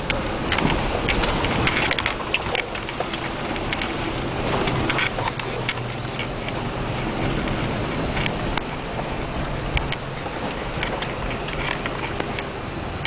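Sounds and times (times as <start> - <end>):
sharp knocks and rattles: 0.0 - 12.6
vehicle engine running: 0.0 - 13.0
water splashing against vehicle: 0.0 - 13.0.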